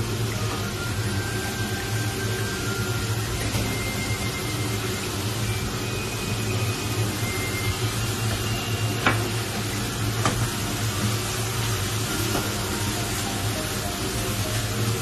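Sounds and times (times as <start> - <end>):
food sizzling: 0.0 - 15.0
stove hiss and hum: 0.0 - 15.0.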